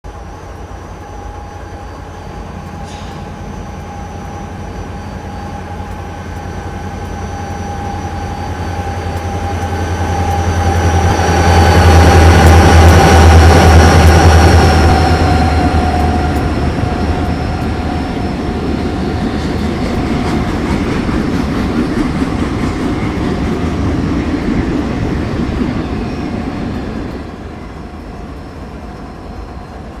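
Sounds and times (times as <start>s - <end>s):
freight train rolling past: 0.1s - 30.0s.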